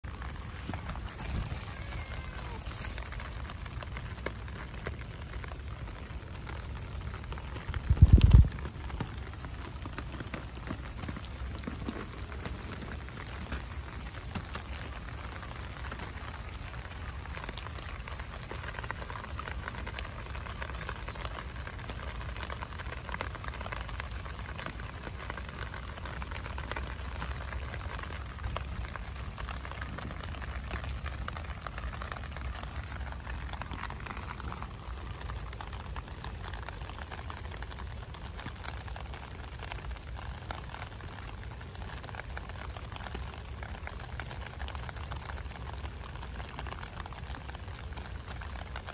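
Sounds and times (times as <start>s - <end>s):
heavy rain on shrubs: 0.0s - 48.9s.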